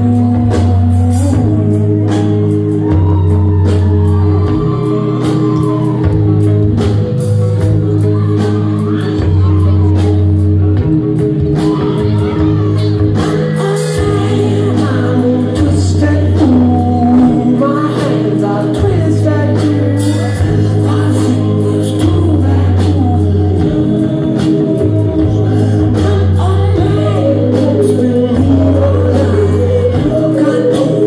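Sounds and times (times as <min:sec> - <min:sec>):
bass notes: 0:00.0 - 0:31.0
guitar: 0:00.0 - 0:31.0
keyboards: 0:00.0 - 0:31.0
person singing: 0:00.0 - 0:31.0
steady drum beat: 0:00.0 - 0:31.0.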